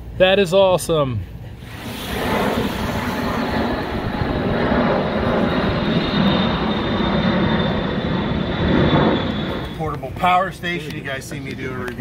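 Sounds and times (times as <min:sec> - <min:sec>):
jet airplane flying overhead: 0:01.4 - 0:12.0.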